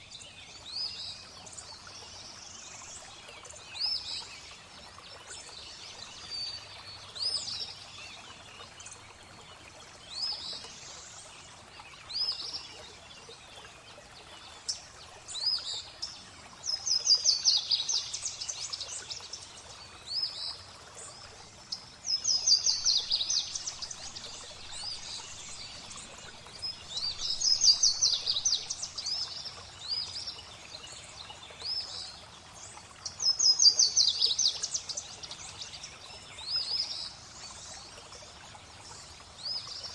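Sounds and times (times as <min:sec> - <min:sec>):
flowing water: 0:00.0 - 0:39.9
songbirds singing: 0:00.0 - 0:39.9.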